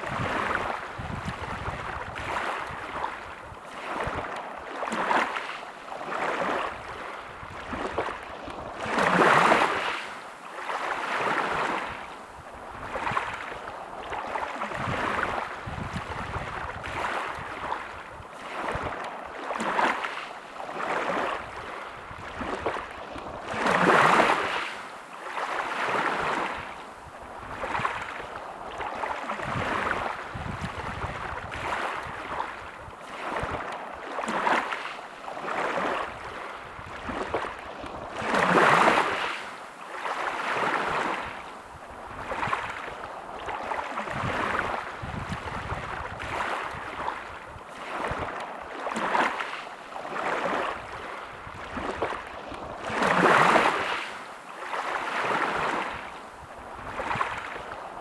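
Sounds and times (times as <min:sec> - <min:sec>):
big waves breaking: 0:00.0 - 0:58.0
small sea waves washing in: 0:00.0 - 0:58.0.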